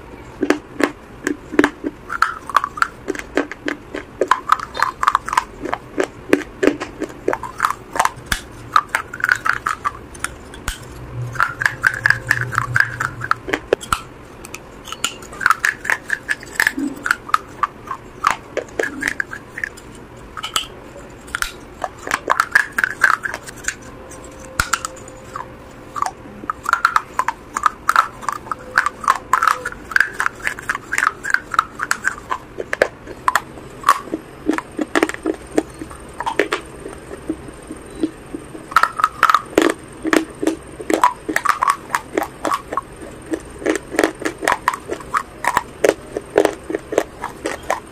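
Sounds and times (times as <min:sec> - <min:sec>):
person chewing crunchy food: 0:00.3 - 0:47.9.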